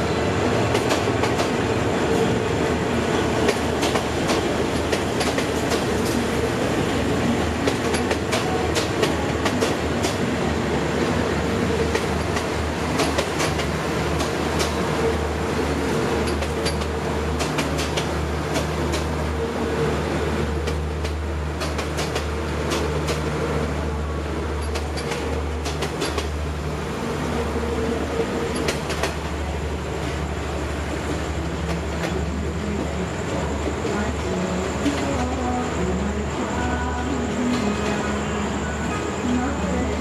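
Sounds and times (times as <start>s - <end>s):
wheels clacking over rail joints: 0.0s - 19.6s, 20.4s - 35.8s
train rumbling past: 0.0s - 40.0s.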